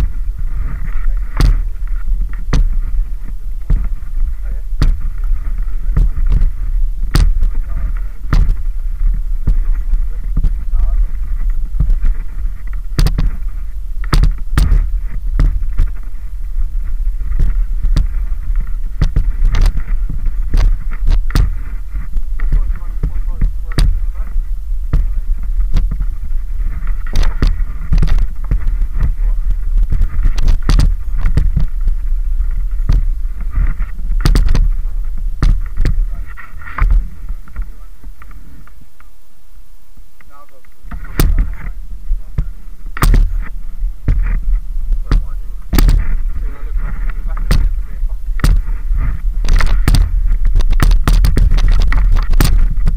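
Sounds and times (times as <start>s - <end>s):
mountain bike knocks and rattles: 0.0s - 38.8s, 40.9s - 52.9s
tyres rolling on gravel: 0.0s - 39.1s, 40.2s - 52.9s
steady low rumble: 0.0s - 52.9s.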